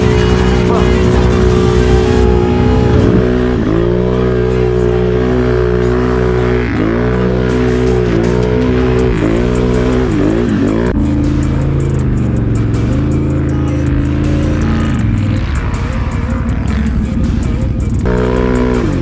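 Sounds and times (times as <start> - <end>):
atv engine at high revs: 0.0 - 17.4, 18.0 - 19.0.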